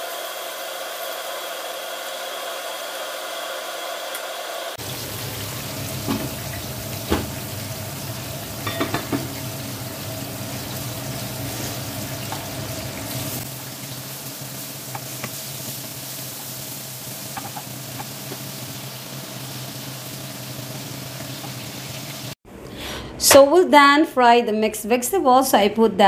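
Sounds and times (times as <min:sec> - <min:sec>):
vegetables sizzling in hot oil: 0:00.0 - 0:22.4.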